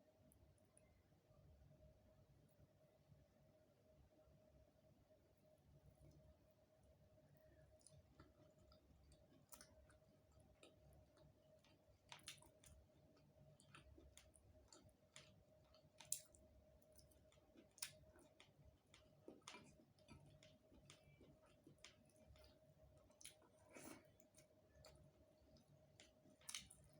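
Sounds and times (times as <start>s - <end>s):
faint steady hum: 0.0s - 26.9s
soft chewing: 5.2s - 26.9s.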